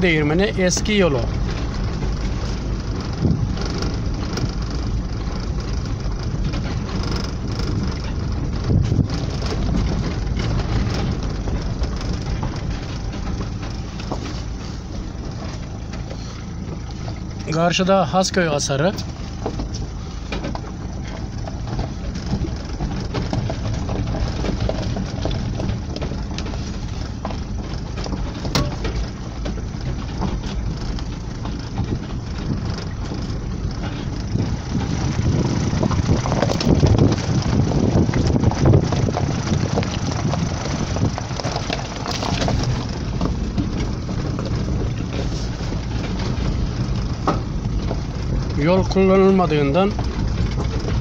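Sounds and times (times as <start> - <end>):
car engine running: 0.0 - 51.0
tyres crunching over stones: 0.0 - 51.0
car body knocks and rattles: 0.9 - 17.5, 18.7 - 51.0.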